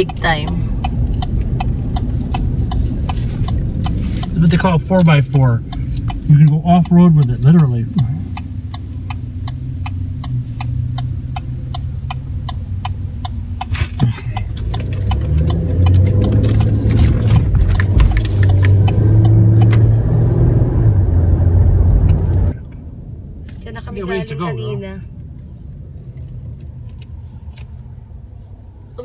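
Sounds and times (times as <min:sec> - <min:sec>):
truck engine and road rumble: 0:00.0 - 0:29.0.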